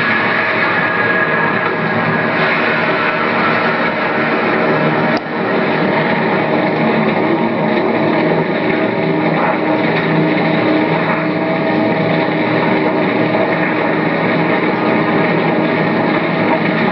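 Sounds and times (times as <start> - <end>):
loud engine-like noise: 0.0 - 16.9.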